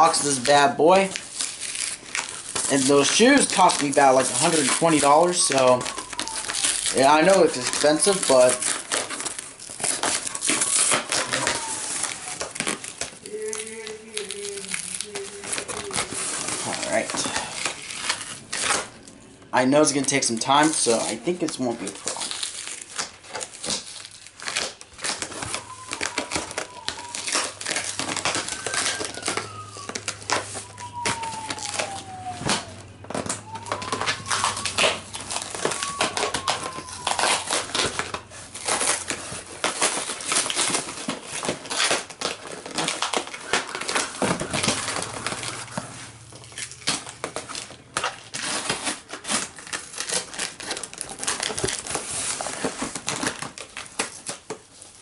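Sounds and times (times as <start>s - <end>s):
cardboard tearing and scraping: 0.0s - 55.0s
packing tape peeling: 0.0s - 55.0s
tape squeals: 1.3s - 22.8s, 23.4s - 52.7s.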